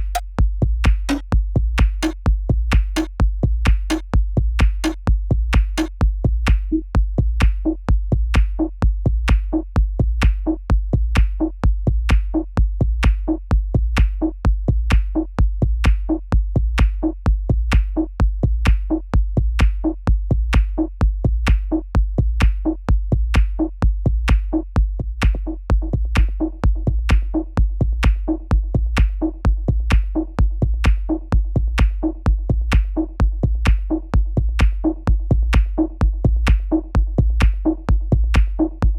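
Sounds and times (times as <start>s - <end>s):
drum machine beat: 0.0s - 38.9s.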